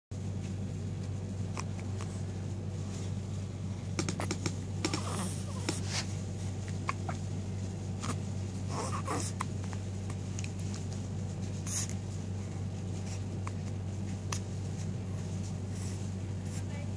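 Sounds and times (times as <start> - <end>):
low hum: 0.2 - 16.9.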